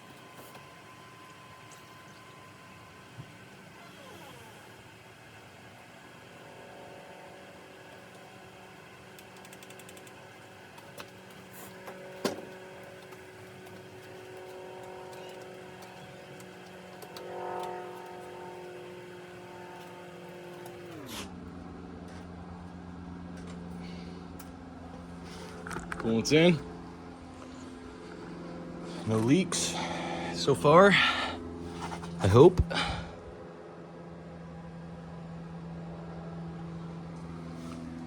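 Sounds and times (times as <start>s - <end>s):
steady motor hum: 0.0s - 38.0s.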